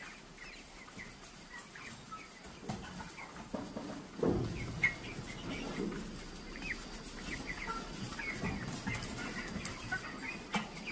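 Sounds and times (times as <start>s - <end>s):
chickens clucking and cheeping: 0.0s - 10.9s.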